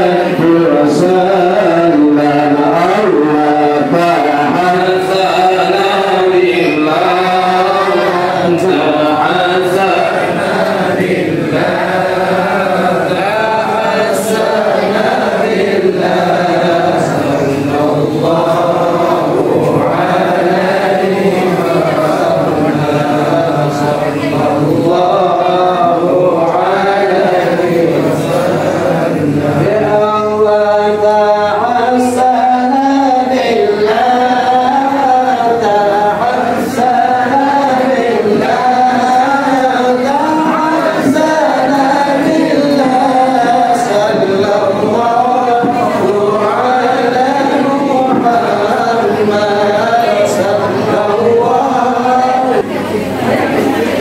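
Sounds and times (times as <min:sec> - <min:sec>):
group chanting in unison: 0:00.0 - 0:54.0.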